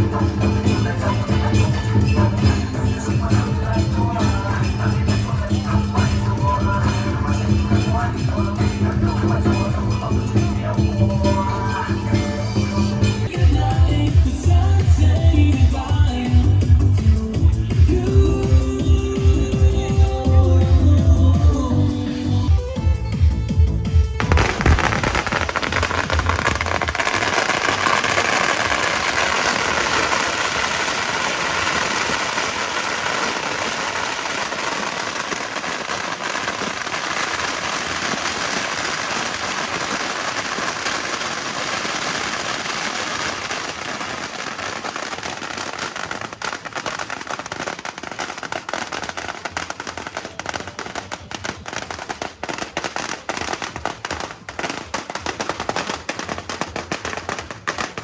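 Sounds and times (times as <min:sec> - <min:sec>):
firecrackers crackling and banging: 0:00.0 - 0:18.9, 0:24.1 - 0:58.0.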